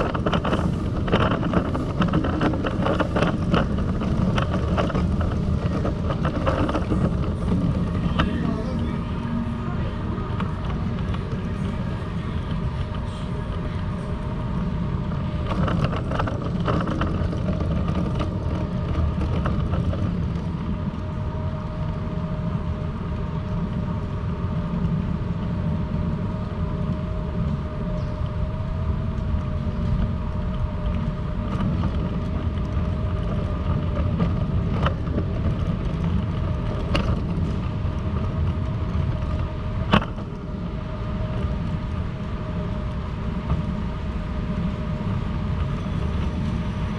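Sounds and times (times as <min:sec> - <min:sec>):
constant hum: 0:00.0 - 0:46.9
low rumble of traffic: 0:00.0 - 0:46.9.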